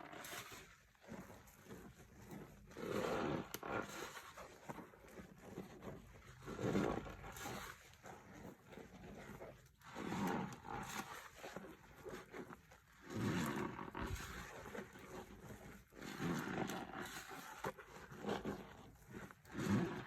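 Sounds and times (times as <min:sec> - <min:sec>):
foamy lather squelching and squeaking: 0:00.0 - 0:20.0.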